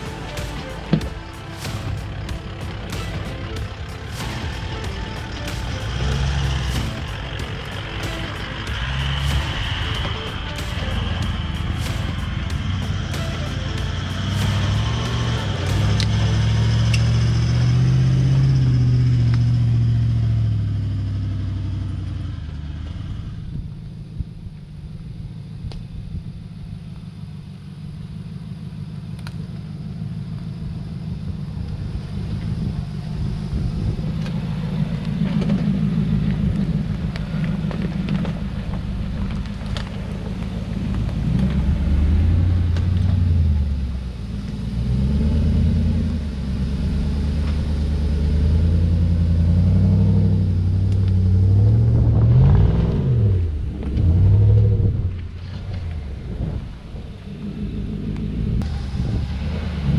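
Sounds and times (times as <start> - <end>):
engine running and revving: 0.0 - 59.9.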